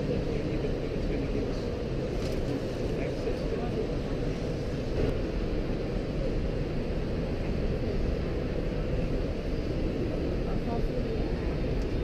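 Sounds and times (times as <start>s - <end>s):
low rumble of crowded hall: 0.0s - 12.0s
murmur of voices: 0.0s - 12.0s.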